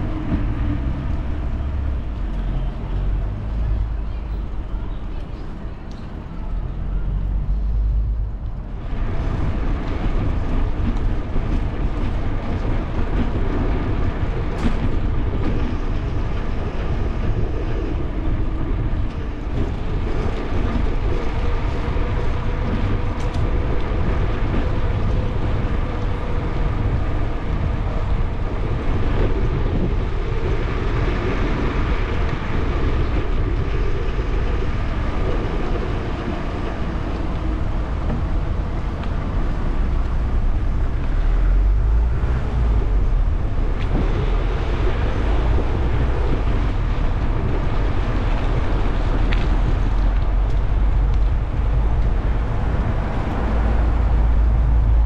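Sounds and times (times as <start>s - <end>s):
street traffic: 0.0s - 55.0s
wind buffeting microphone: 0.0s - 55.0s.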